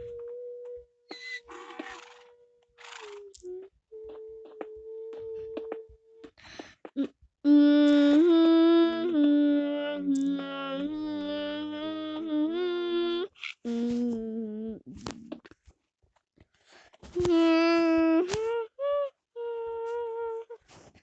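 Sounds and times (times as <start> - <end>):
person humming a tune: 0.0 - 15.4, 17.2 - 20.6.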